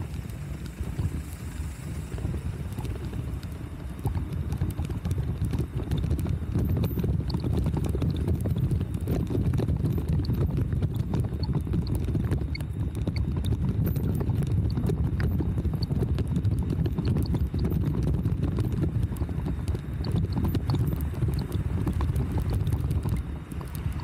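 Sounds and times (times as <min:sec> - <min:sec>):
bicycle rolling over paving stones: 0:00.0 - 0:24.0
bike rattling clicks and knocks: 0:00.1 - 0:24.0.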